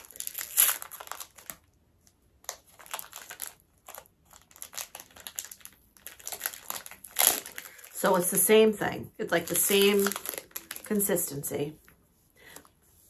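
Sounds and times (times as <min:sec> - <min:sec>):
plastic wrapper crinkling: 0:00.0 - 0:11.8.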